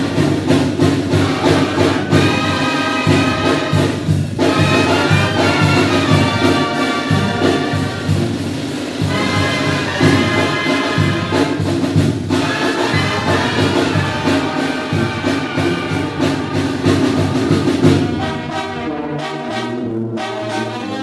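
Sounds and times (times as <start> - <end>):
drums keeping the beat: 0.0 - 18.9
brass band playing: 0.0 - 21.0.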